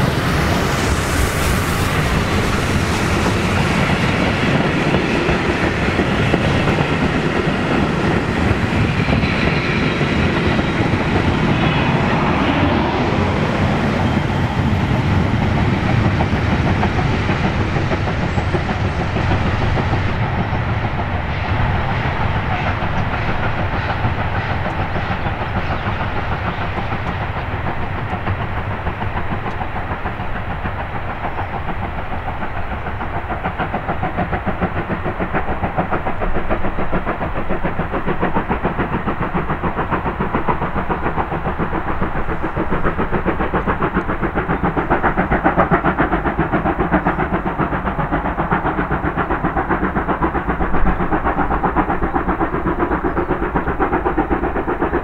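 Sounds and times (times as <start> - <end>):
train wheels clattering over rail joints: 2.0 - 55.0.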